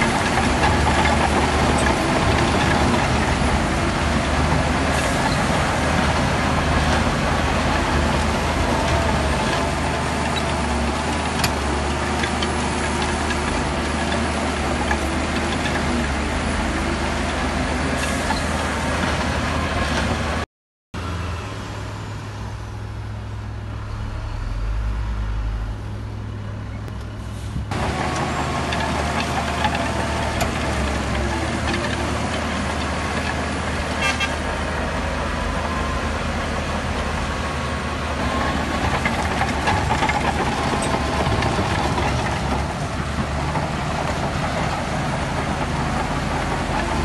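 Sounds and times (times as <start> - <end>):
heavy machinery diesel engines: 0.0 - 20.4, 21.0 - 47.0.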